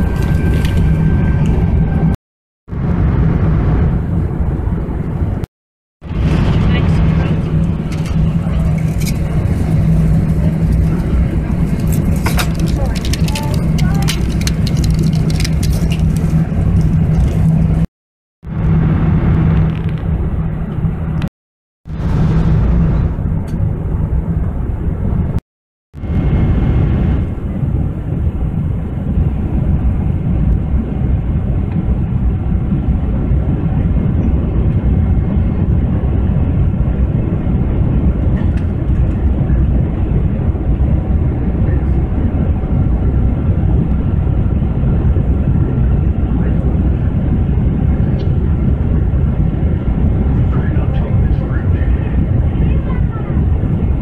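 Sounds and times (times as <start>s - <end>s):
airliner cabin engine and airflow rush: 0.0s - 21.3s, 21.9s - 25.4s, 26.0s - 54.0s.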